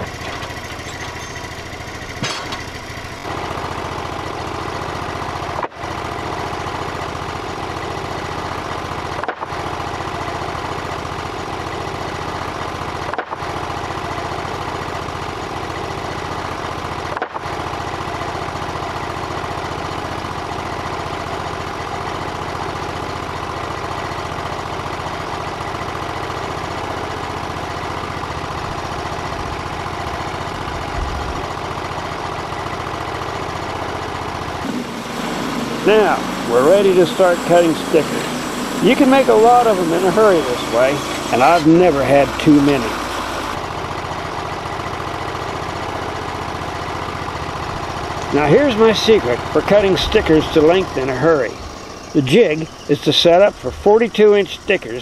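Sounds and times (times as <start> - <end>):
gasoline engine idling: 0.0 - 55.0.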